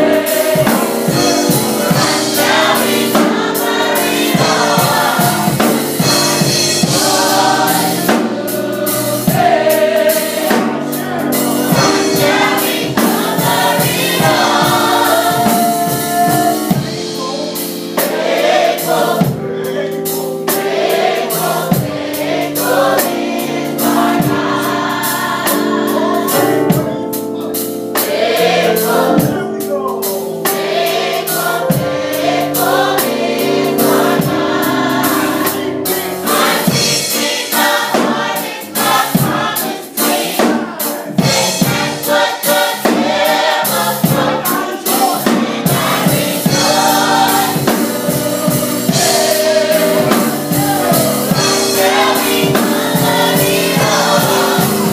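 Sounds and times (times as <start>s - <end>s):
drum kit beat: 0.0s - 54.9s
gospel choir singing: 0.0s - 54.9s.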